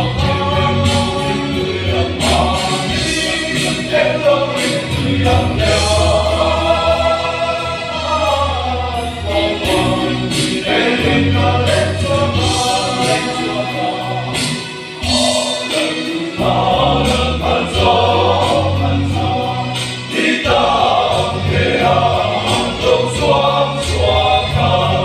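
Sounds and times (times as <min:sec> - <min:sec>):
men's choir singing gospel: 0:00.0 - 0:25.0.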